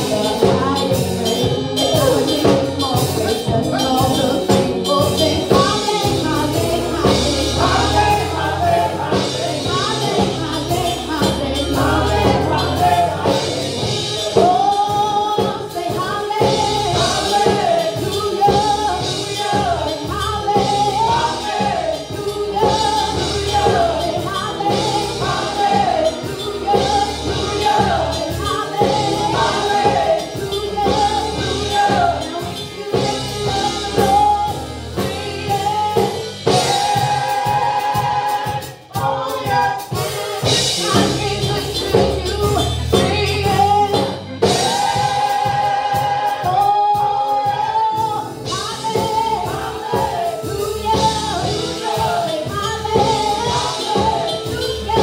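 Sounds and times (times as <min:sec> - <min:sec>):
gospel choir singing: 0:00.0 - 0:55.0
instrumental backing: 0:00.0 - 0:55.0.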